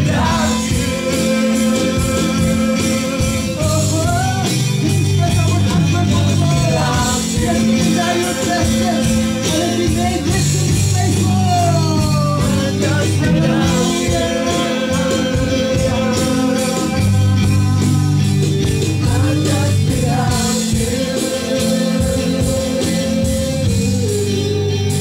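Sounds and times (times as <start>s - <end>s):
electric guitar: 0.0s - 25.0s
keyboard: 0.0s - 25.0s
people singing: 0.0s - 25.0s.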